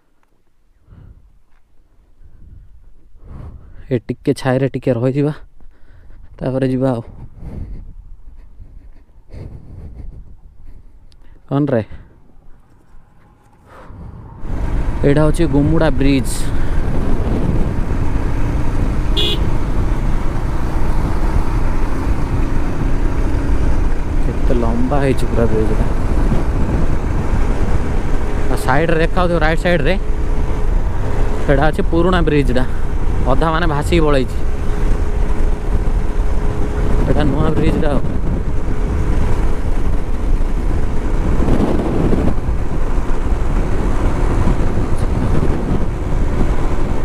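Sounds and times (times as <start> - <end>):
motorcycle engine hum: 0.0 - 3.8, 5.4 - 47.0
wind and road noise: 0.0 - 47.0.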